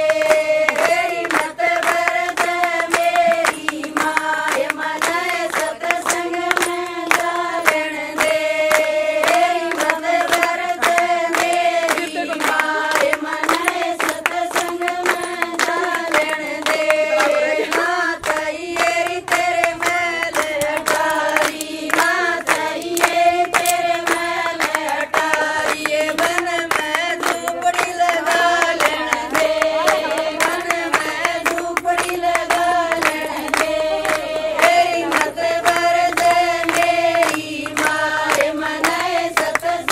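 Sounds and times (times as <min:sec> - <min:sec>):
hands clapping to a beat: 0:00.0 - 0:39.9
women singing together: 0:00.0 - 0:39.9.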